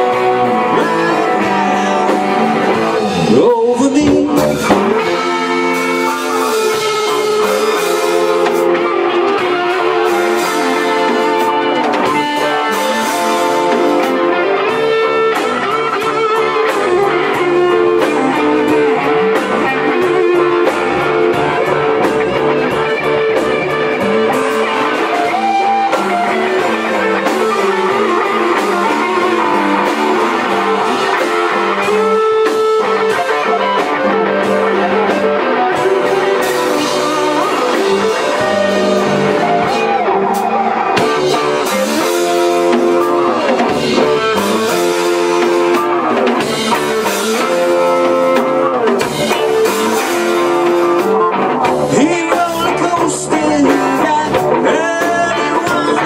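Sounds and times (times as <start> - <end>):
amplified electric guitars: 0.0 - 56.0
drum kit: 0.0 - 56.0.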